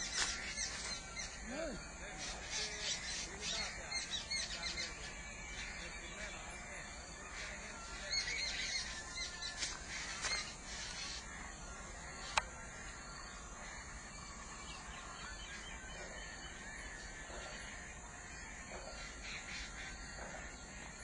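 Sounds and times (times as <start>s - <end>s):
birds calling: 0.0s - 21.0s
outdoor background noise: 0.0s - 21.0s.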